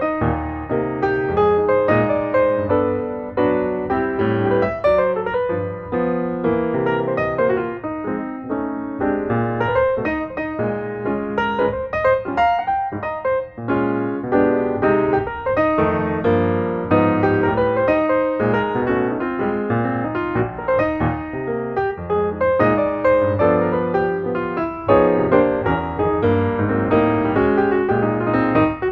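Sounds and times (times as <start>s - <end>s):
piano music: 0.0s - 28.9s.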